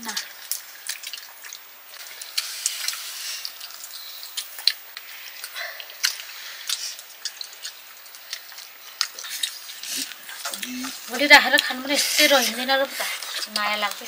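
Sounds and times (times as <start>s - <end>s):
faint sizzling hiss: 0.0s - 14.0s
food popping and crackling: 0.0s - 14.0s.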